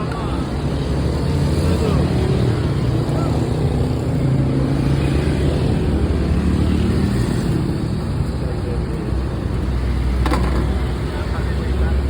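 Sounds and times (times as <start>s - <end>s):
motorbike and car engines: 0.0s - 12.0s.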